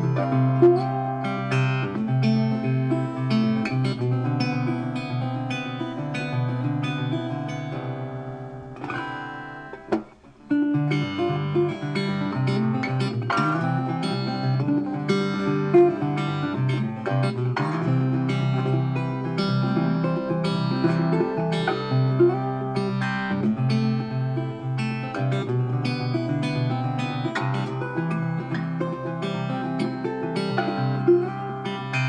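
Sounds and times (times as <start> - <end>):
plucked acoustic guitar: 0.0 - 32.0.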